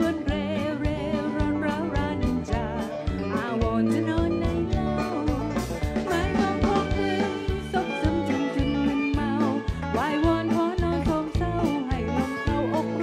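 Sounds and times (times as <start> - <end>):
drum kit beat: 0.0 - 13.0
guitar and plucked strings: 0.0 - 13.0
woman singing into microphone: 0.0 - 13.0.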